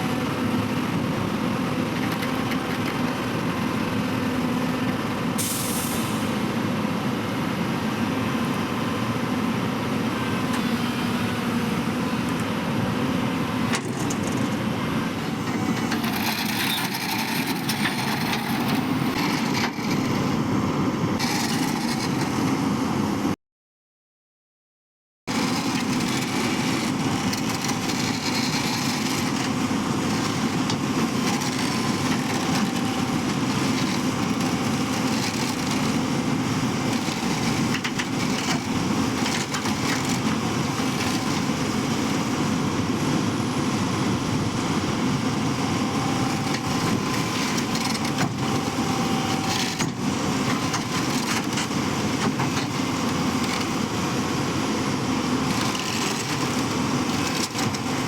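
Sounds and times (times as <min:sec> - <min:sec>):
diesel engine running: 0:00.0 - 0:23.4, 0:25.3 - 0:58.0.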